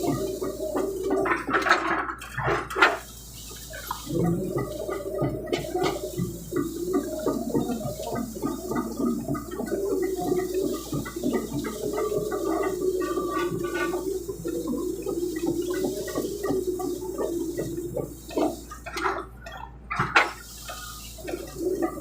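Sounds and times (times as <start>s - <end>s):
excavator engine droning: 0.0s - 22.0s.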